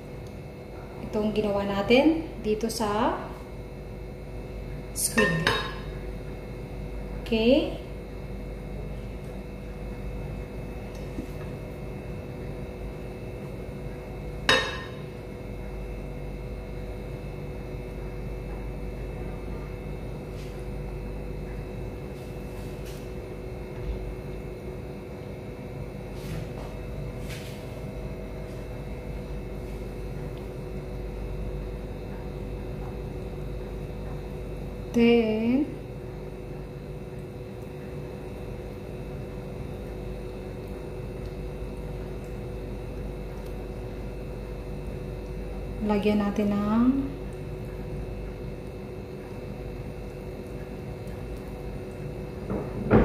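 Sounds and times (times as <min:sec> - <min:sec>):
machine hum with low rumble: 0:00.0 - 0:53.0.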